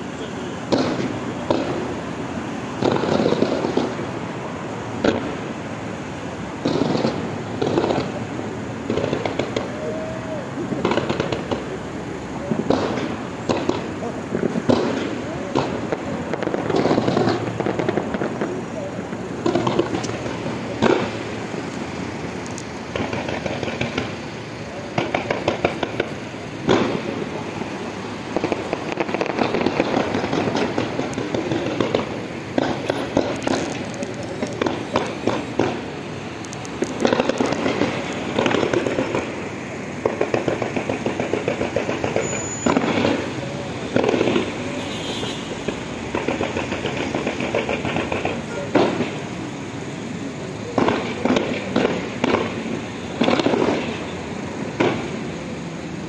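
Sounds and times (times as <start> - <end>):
fireworks crackling pops: 0.0 - 56.0.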